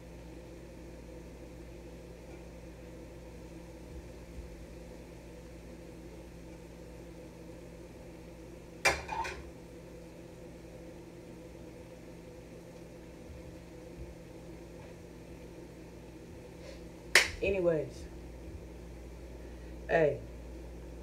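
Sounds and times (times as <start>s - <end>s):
low kitchen hum: 0.0s - 21.0s.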